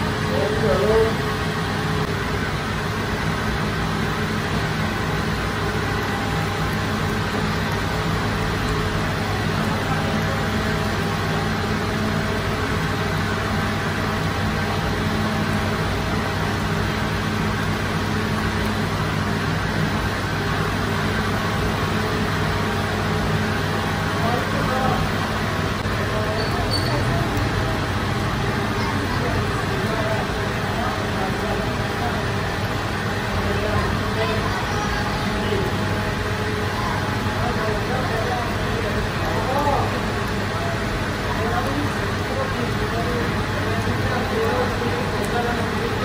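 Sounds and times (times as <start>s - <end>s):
bakery machinery droning: 0.0s - 46.0s.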